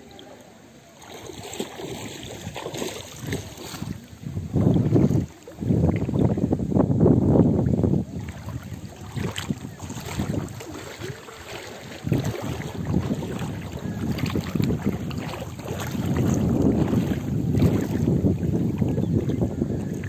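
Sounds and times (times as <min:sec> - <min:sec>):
wind buffeting microphone: 0:01.1 - 0:20.0.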